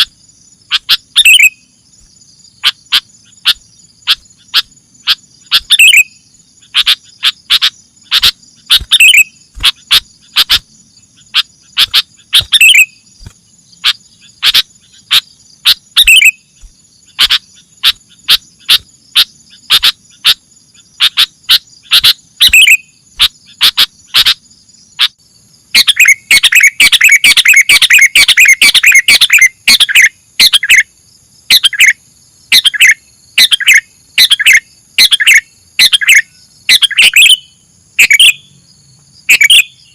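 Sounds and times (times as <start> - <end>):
birds chirping: 0.0 - 39.9
high insect drone: 0.0 - 39.9.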